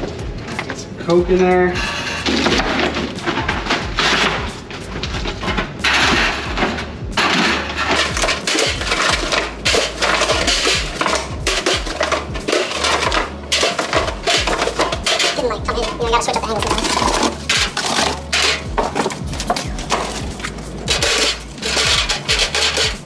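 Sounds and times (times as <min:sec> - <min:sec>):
background music with bass: 0:00.0 - 0:23.0
soda cans clattering: 0:01.9 - 0:23.0.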